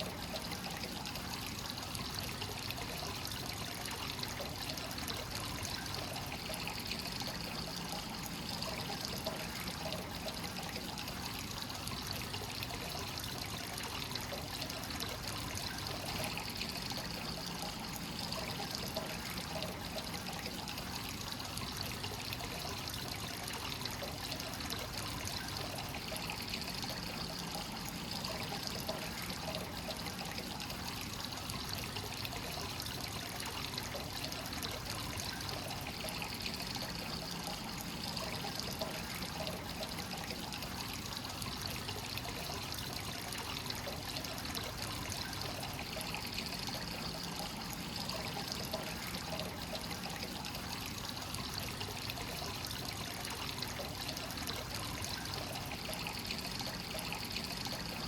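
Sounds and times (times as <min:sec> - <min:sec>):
water pouring into a bath: 0:00.0 - 0:58.0.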